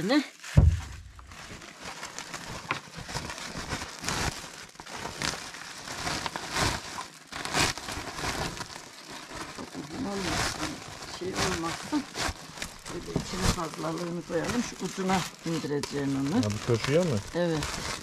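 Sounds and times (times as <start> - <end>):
plastic sack rustling: 0.0 - 18.0.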